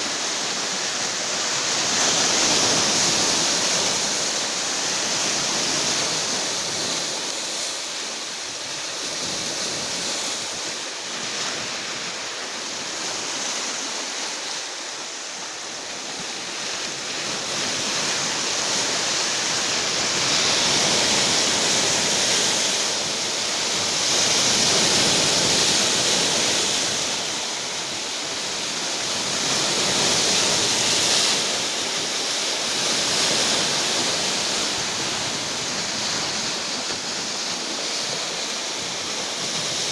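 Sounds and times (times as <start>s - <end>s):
rough sea waves breaking: 0.0s - 39.9s.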